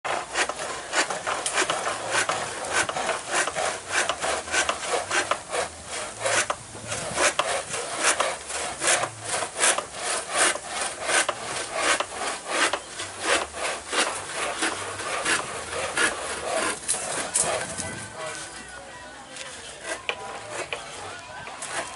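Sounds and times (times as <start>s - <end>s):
hand saw cutting wood: 0.1s - 18.7s, 19.4s - 21.9s.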